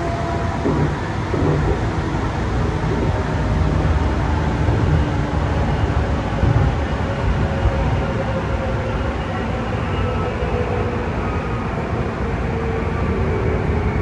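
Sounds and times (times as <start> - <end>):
faint steady whine: 0.0 - 14.0
train wheels rumbling on rail: 0.0 - 14.0.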